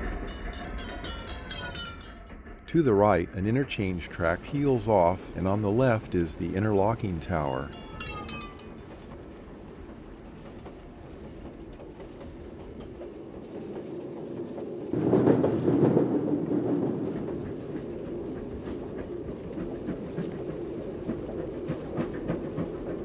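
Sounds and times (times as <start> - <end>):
rail-joint clicks: 0.0 - 23.0
train wheels rolling on rails: 0.0 - 23.0
wheels clattering over crossing: 0.0 - 23.0.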